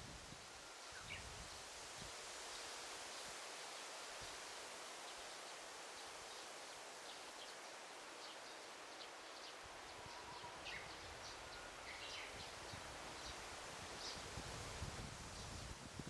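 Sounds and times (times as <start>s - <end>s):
faint rustling hiss: 0.0s - 16.0s.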